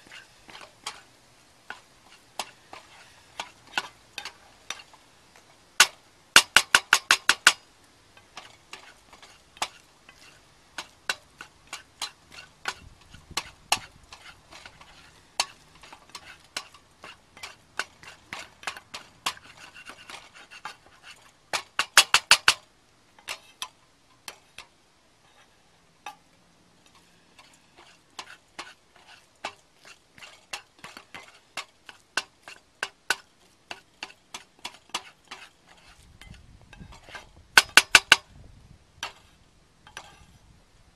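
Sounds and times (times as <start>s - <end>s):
utensil scraping eggs in pan: 0.0s - 22.6s, 23.2s - 26.2s, 26.8s - 38.2s, 39.0s - 40.4s.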